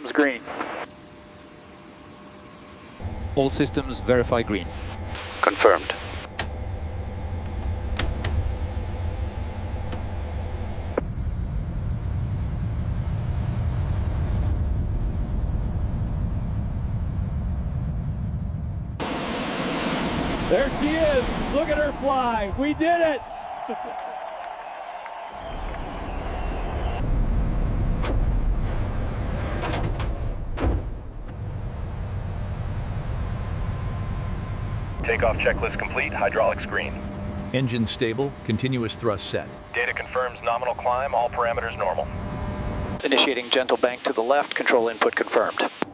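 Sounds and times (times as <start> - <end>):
jet engines rumbling: 2.8 - 45.9.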